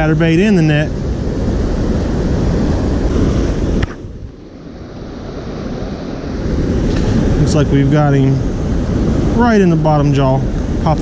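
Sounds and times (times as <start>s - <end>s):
stream water rushing: 0.0s - 11.0s
wind buffeting microphone: 0.0s - 11.0s.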